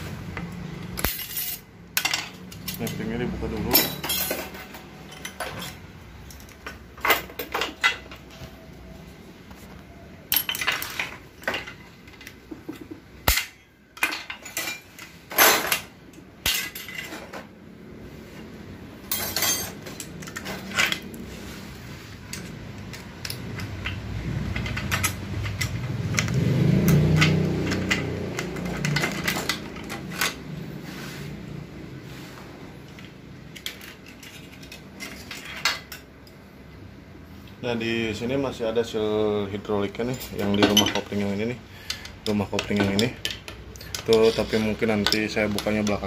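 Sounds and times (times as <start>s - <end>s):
metal parts clinking and scraping: 0.3s - 8.4s, 10.2s - 17.6s, 18.3s - 30.7s, 32.8s - 36.4s, 39.8s - 46.0s.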